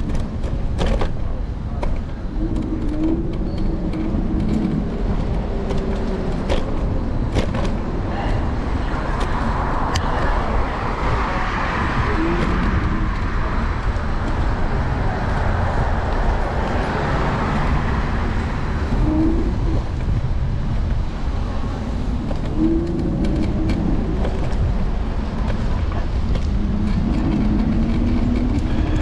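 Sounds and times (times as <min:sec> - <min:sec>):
city street traffic: 0:00.0 - 0:29.0
low wind rumble on microphone: 0:00.0 - 0:29.0.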